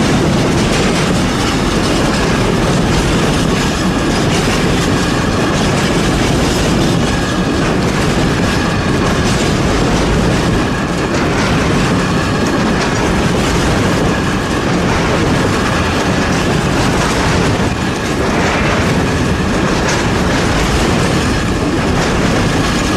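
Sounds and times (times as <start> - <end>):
train wagons rolling past: 0.0 - 22.9
wind on microphone: 0.0 - 22.9.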